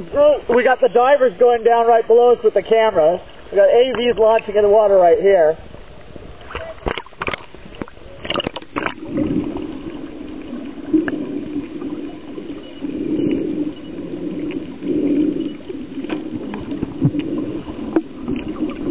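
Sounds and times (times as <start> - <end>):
muffled underwater noise: 0.0 - 18.9
underwater bubbling: 0.0 - 18.9
water splashing: 0.0 - 18.9.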